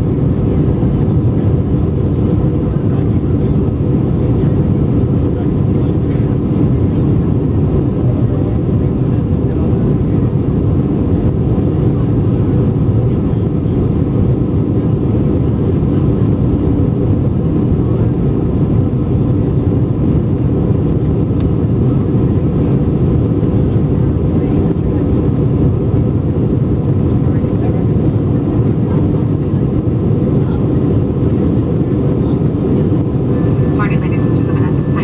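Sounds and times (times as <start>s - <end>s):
aircraft cabin engine drone: 0.0s - 35.0s.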